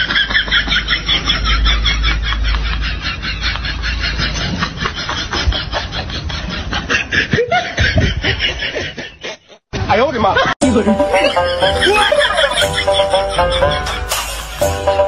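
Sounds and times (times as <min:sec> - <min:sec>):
people laughing: 0:00.0 - 0:15.0.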